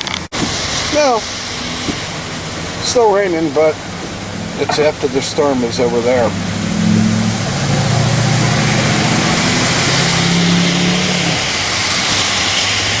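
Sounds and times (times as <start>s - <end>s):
rain hiss: 0.0s - 13.0s
tyres on wet road: 0.0s - 13.0s
van engine running: 0.0s - 13.0s.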